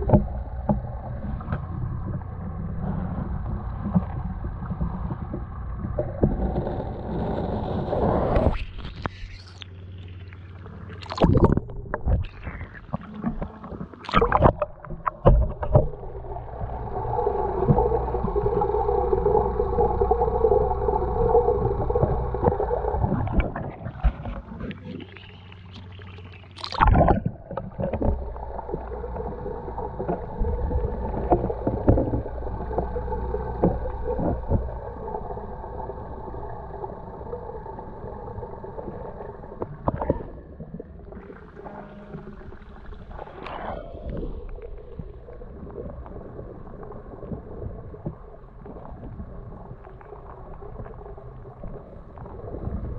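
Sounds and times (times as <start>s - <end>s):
muffled underwater rumble: 0.0s - 52.9s.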